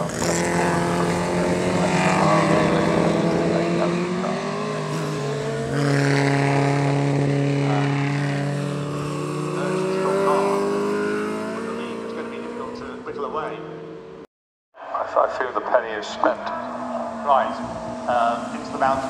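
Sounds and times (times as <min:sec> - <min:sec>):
racing car engines running hard: 0:00.0 - 0:14.2, 0:14.9 - 0:19.0.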